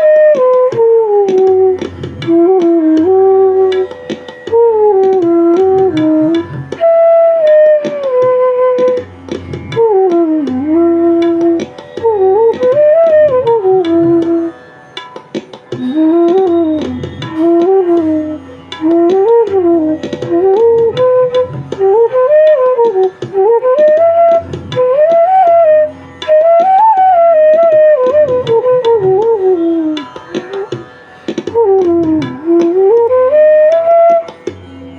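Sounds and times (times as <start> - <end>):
bamboo flute melody: 0.0 - 34.9.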